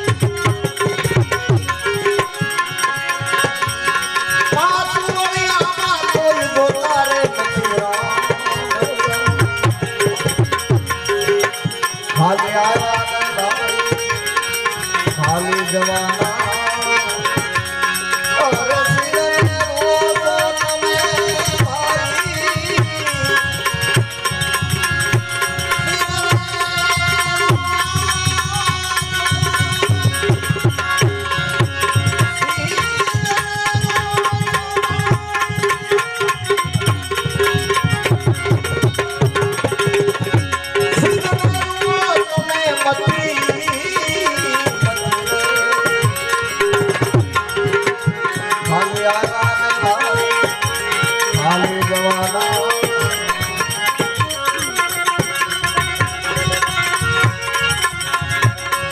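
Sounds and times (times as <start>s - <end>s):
hand drums playing fast rhythm: 0.0s - 58.9s.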